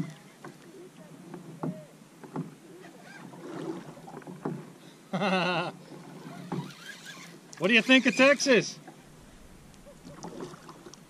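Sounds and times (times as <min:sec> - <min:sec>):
water slapping against kayak hull: 0:00.0 - 0:04.8, 0:05.9 - 0:11.0.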